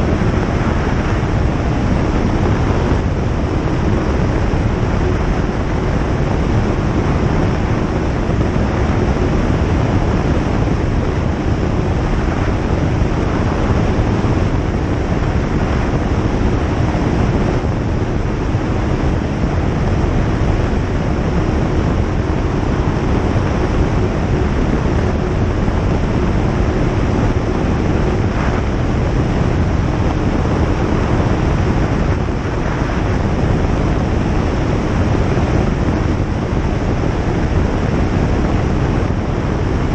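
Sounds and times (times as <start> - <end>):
light aeroplane engine drone: 0.0 - 39.9.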